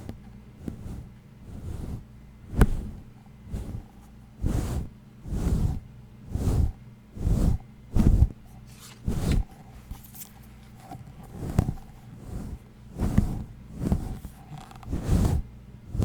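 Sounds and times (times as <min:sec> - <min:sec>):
rubbing swishes close to microphone: 0:00.0 - 0:16.0.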